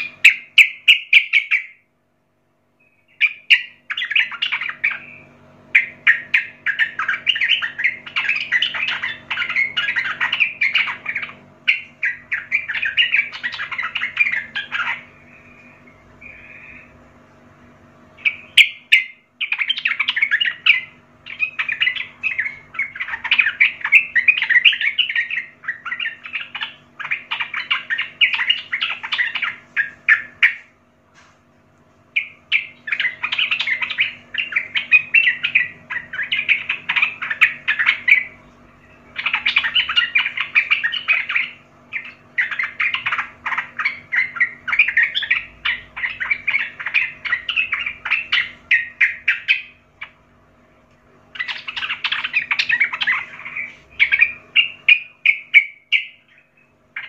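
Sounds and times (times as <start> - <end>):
bird chattering song: 0.0 - 1.9, 2.8 - 31.3, 32.0 - 57.0.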